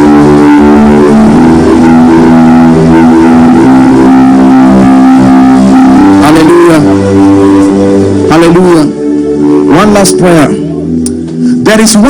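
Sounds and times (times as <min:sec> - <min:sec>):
sustained pad chords: 0:00.0 - 0:12.0.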